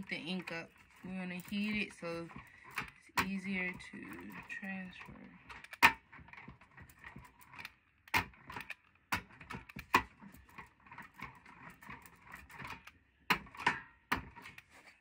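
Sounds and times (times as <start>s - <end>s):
brayer rolling through sticky ink: 0.0s - 15.0s.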